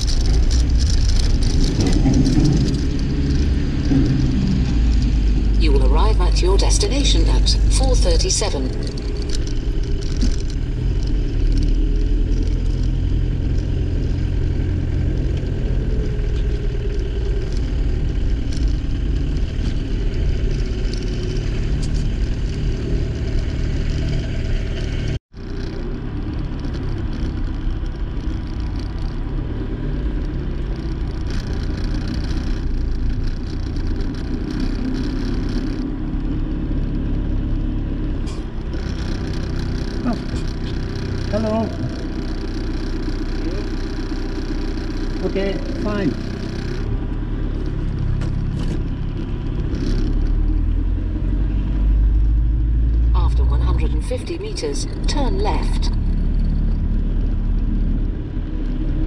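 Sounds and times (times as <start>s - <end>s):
car engine rumble: 0.0s - 59.0s
road noise: 0.0s - 59.0s.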